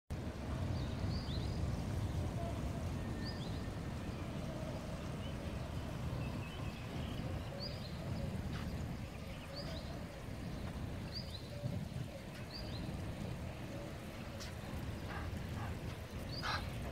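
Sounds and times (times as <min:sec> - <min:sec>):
low outdoor background rumble: 0:00.1 - 0:16.9
bird chirping: 0:03.1 - 0:16.9.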